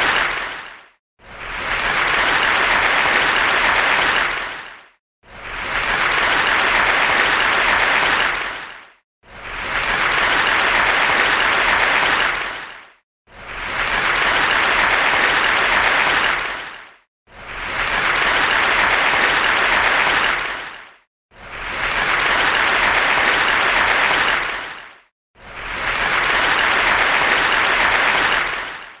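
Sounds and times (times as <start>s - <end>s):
crowd applause: 0.0s - 0.7s, 1.3s - 4.6s, 5.5s - 8.7s, 9.5s - 12.6s, 13.5s - 16.7s, 17.4s - 20.8s, 21.5s - 24.8s, 25.5s - 29.0s.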